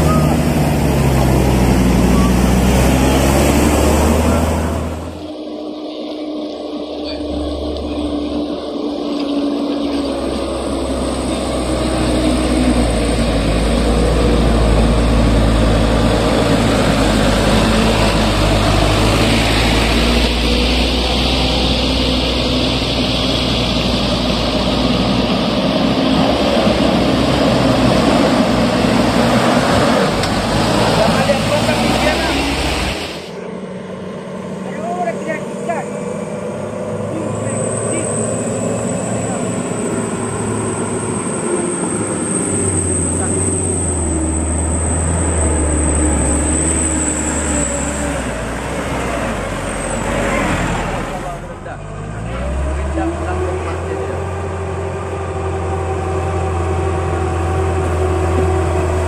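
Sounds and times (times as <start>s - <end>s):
box truck diesel engine climbing: 0.0s - 59.0s
dump truck engine running: 0.0s - 59.0s.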